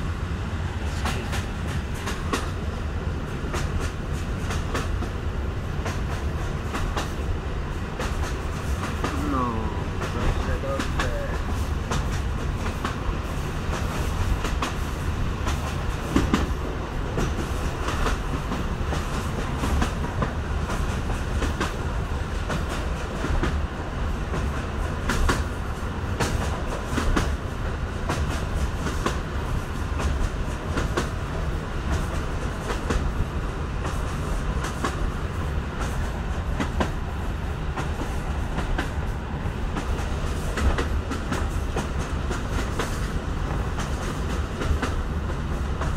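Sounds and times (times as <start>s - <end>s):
train ride rumble: 0.0s - 45.9s.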